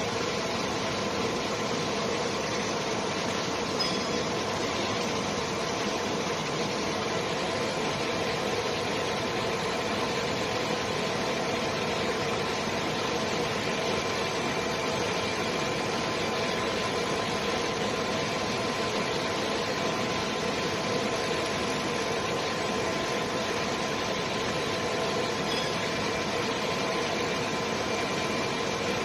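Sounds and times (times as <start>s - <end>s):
laser cutting machine hum and hiss: 0.0s - 29.0s.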